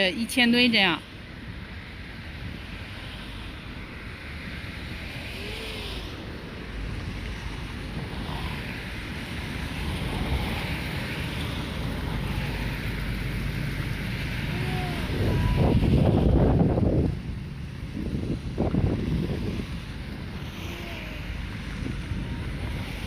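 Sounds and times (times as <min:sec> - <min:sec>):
ship engine rumble: 0:01.0 - 0:23.0
ship wash: 0:01.0 - 0:23.0
wind on microphone: 0:02.3 - 0:23.0.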